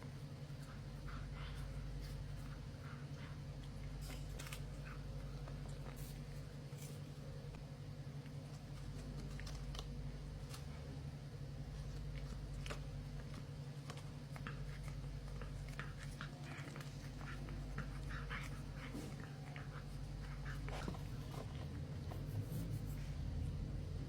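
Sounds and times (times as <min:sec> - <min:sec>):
cat chewing and smacking: 0:00.0 - 0:23.5.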